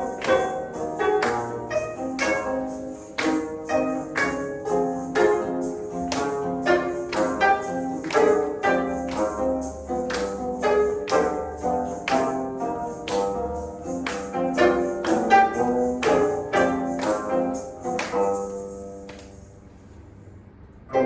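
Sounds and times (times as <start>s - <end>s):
instrumental ensemble playing: 0.0s - 18.7s
jingling percussion strikes: 0.0s - 20.2s.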